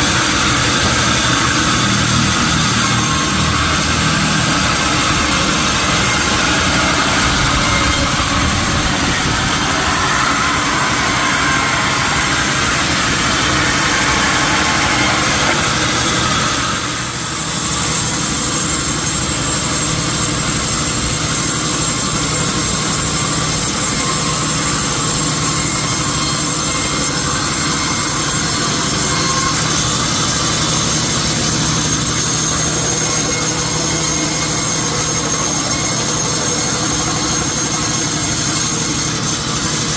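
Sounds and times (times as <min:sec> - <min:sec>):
sawmill machinery running: 0:00.0 - 0:39.9
steady high whine: 0:00.0 - 0:39.9.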